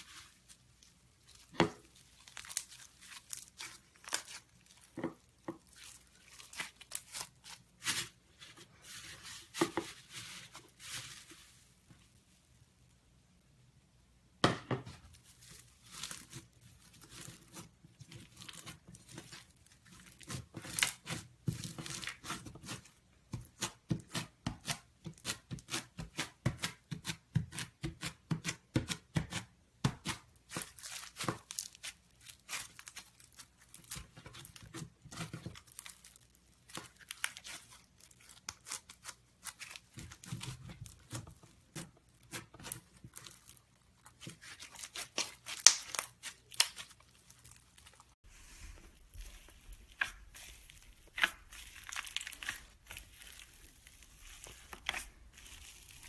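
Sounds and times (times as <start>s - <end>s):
foam slime crackling and popping: 0.0s - 8.2s, 15.2s - 28.1s, 30.0s - 56.0s.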